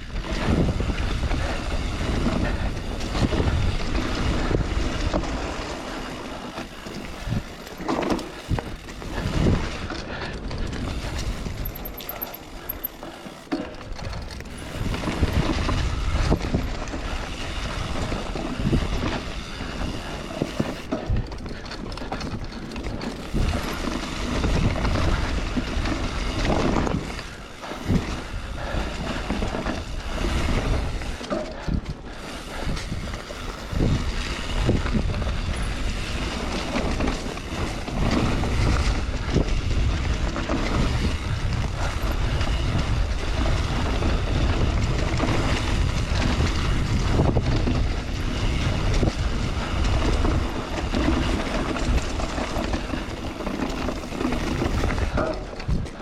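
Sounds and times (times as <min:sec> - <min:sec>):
bike knocking and rattling: 0:00.0 - 0:56.0
wind buffeting microphone: 0:00.0 - 0:56.0
tyres rumbling over dirt: 0:00.1 - 0:56.0.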